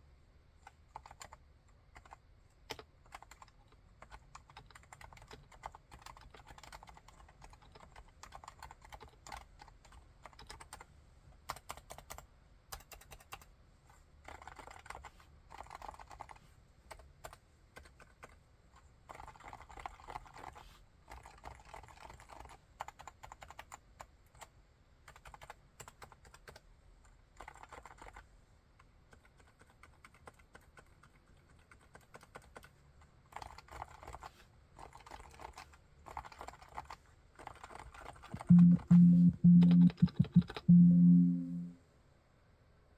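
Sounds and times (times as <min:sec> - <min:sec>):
soft keyboard typing: 0:00.6 - 0:28.3, 0:29.1 - 0:41.8.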